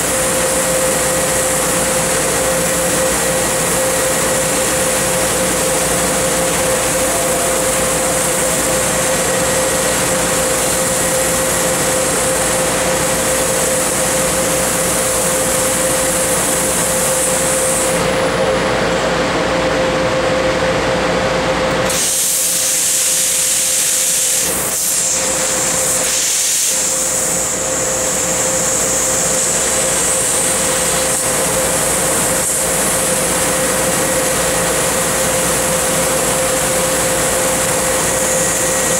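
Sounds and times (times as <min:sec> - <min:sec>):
laser cutter hissing: 0:00.0 - 0:18.6, 0:21.7 - 0:38.9
steady machine hum: 0:00.0 - 0:38.9.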